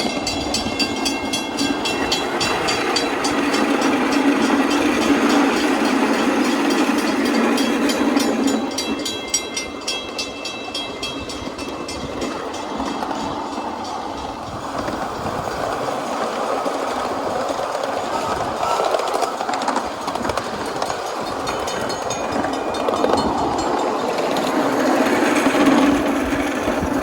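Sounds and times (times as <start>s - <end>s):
miniature steam train clicking: 0.0s - 27.0s.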